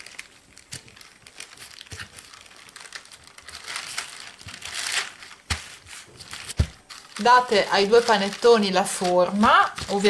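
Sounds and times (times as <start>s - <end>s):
baking paper crinkling: 0.0s - 10.0s.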